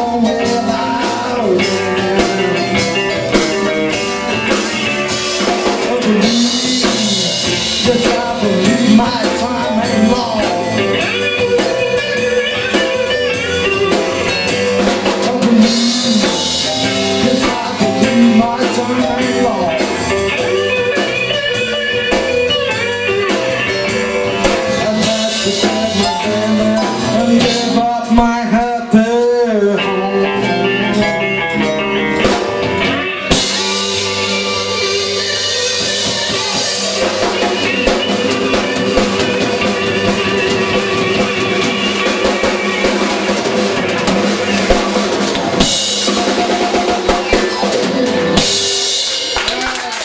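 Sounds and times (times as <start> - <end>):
bass guitar: 0.0 - 50.0
drum kit: 0.0 - 50.0
electric guitar: 0.0 - 50.0.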